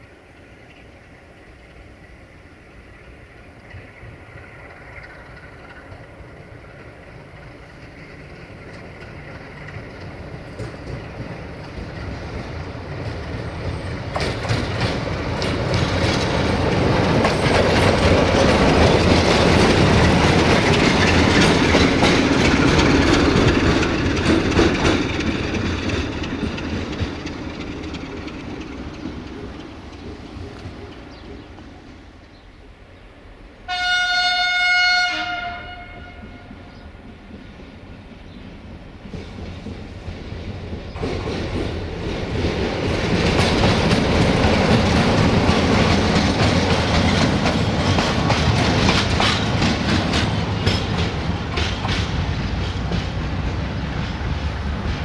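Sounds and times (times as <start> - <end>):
train wheels clicking over rail joints: 0.0 - 32.4, 36.3 - 55.0
diesel locomotive engine: 0.0 - 55.0.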